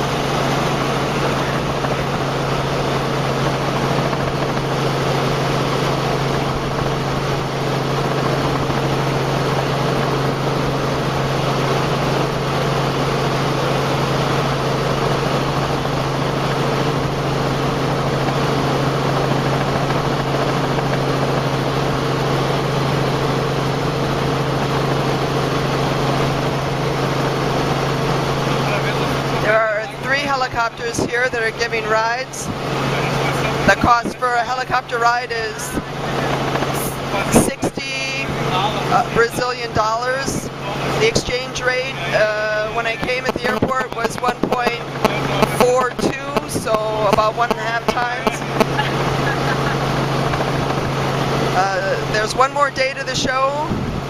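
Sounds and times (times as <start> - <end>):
helicopter cabin drone: 0.0 - 54.0.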